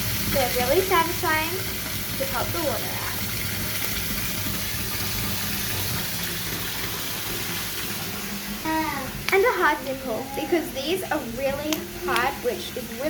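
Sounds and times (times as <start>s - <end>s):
water running from bath tap: 0.0s - 13.0s.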